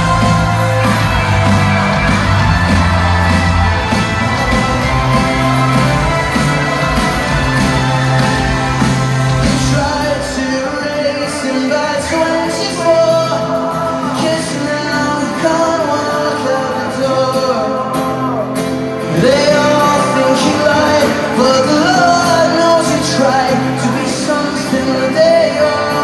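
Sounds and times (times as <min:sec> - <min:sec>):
backing music: 0:00.0 - 0:26.0
person singing: 0:00.0 - 0:26.0.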